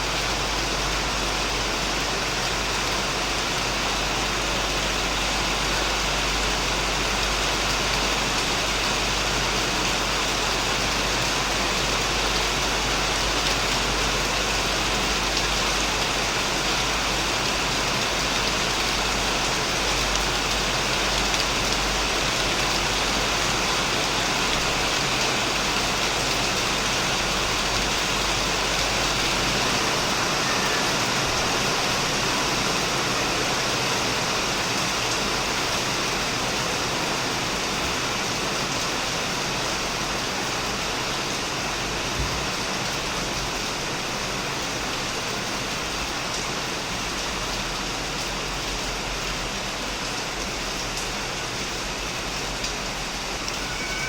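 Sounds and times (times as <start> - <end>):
heavy rain on shed and plants: 0.0 - 54.0.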